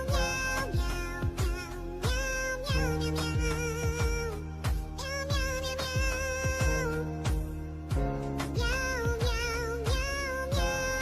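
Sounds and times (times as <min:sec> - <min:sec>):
kick drum beat: 0:00.1 - 0:10.9.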